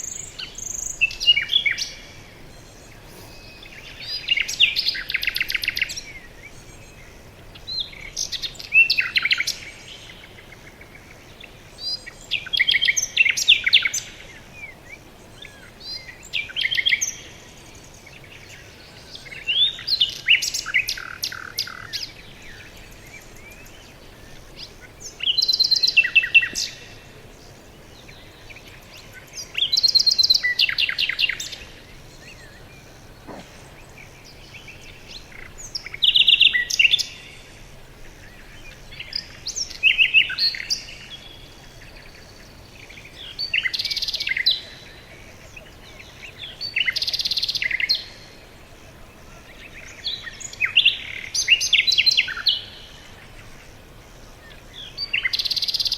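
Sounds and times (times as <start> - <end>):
faint steady hiss: 0.0 - 55.9
songbird chirping: 0.0 - 55.9.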